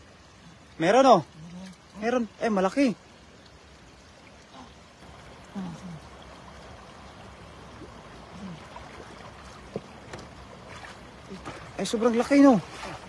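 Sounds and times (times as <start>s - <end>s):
stream water running and sloshing: 0.0s - 13.0s.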